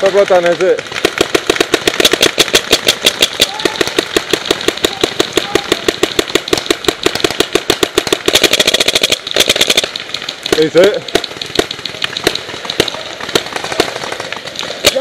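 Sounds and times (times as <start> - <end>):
paintball markers firing rapidly: 0.0 - 15.0.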